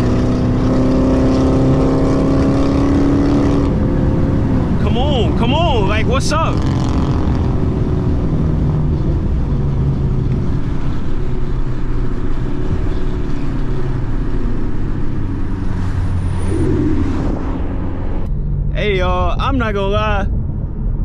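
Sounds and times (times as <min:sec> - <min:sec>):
car engine droning: 0:00.0 - 0:21.0
road noise: 0:00.0 - 0:21.0.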